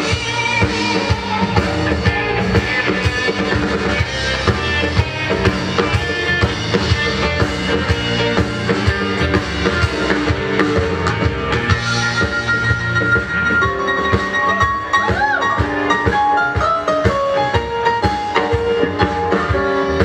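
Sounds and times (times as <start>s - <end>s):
drum kit beat: 0.0s - 20.0s
soul band playing: 0.0s - 20.0s.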